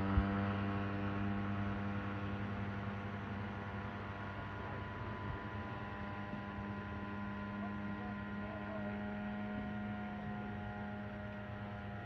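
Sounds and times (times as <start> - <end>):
model plane motor droning: 0.0 - 12.0.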